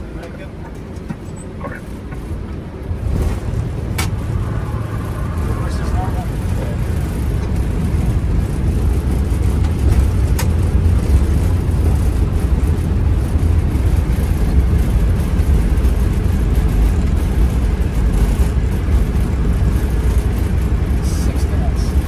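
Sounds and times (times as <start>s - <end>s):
airliner cockpit rumble on runway: 0.0s - 22.0s.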